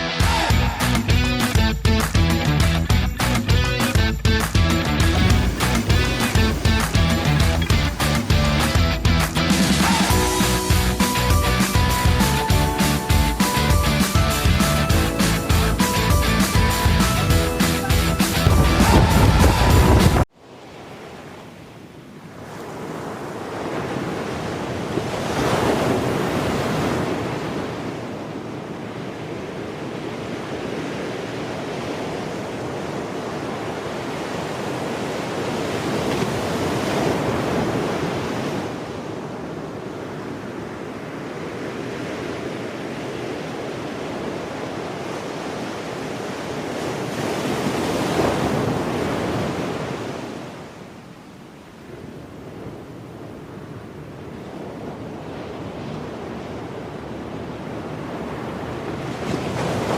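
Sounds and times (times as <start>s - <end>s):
sea waves breaking on shore: 3.8s - 59.9s
steady wind: 4.8s - 59.9s.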